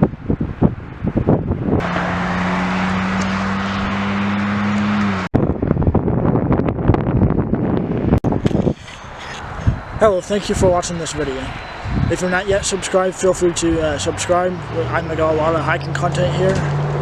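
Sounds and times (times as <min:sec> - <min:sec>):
wind buffeting microphone: 0:00.0 - 0:17.0
vehicle engine humming: 0:00.9 - 0:17.0.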